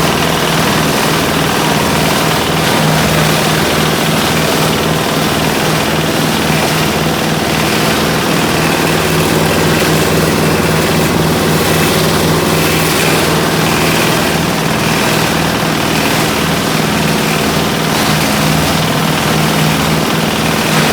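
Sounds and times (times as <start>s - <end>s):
small engine running: 0.0s - 20.9s.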